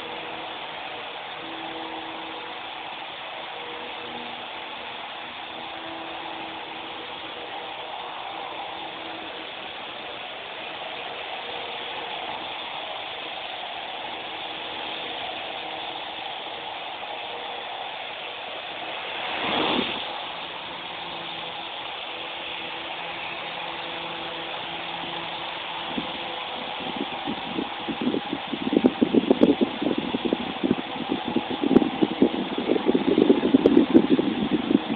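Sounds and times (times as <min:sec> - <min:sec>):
toy helicopter rotor whirring: 0:00.0 - 0:34.9.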